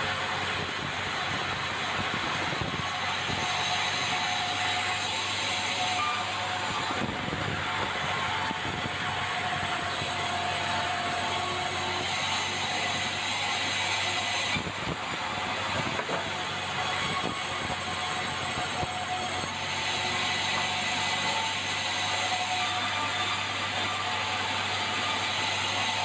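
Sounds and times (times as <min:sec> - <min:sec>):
sawmill machinery drone: 0:00.0 - 0:26.0.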